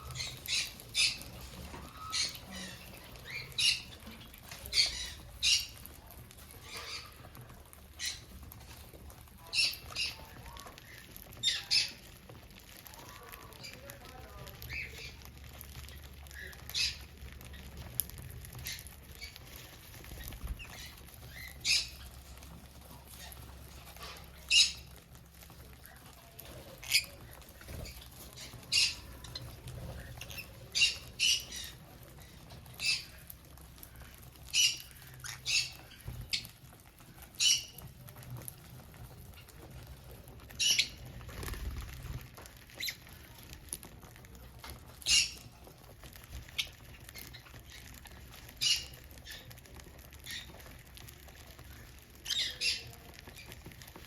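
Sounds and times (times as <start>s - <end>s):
budgerigars chirping and squawking: 0.0s - 12.4s, 13.1s - 43.4s, 44.6s - 54.0s.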